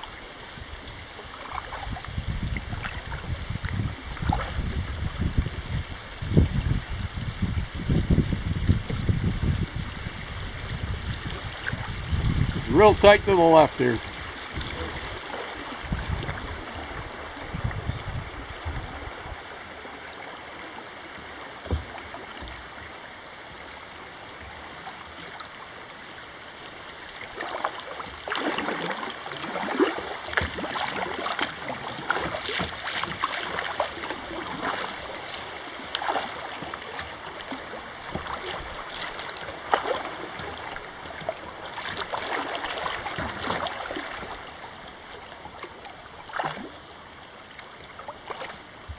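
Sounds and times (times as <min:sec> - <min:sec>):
river current flowing: 0:00.0 - 0:48.9
water splashing and gurgling: 0:00.0 - 0:48.9.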